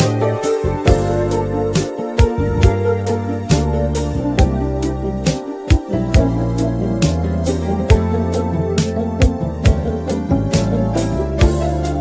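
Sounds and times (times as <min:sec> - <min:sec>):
sustained bass notes: 0:00.0 - 0:12.0.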